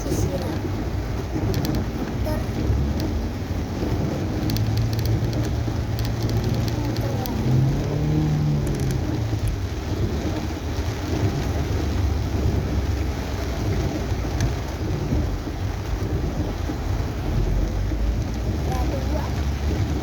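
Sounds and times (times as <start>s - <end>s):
deep road rumble: 0.0s - 20.0s
heavy rain on a car roof: 0.0s - 20.0s.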